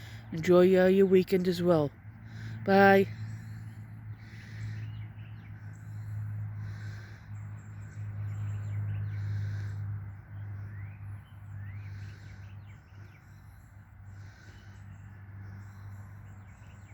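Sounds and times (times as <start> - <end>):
birdsong: 0.0 - 16.9.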